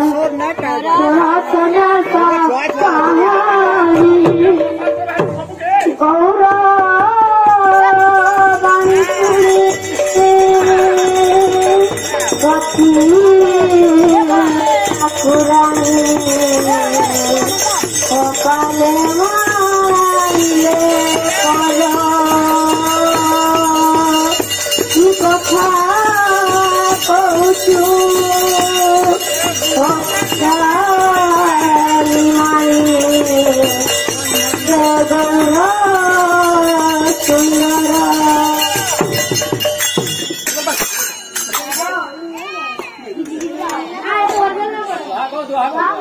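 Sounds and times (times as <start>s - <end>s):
boy singing into a microphone: 0.0s - 39.8s
hand drums: 0.0s - 44.6s
high metallic jingle: 7.6s - 44.5s.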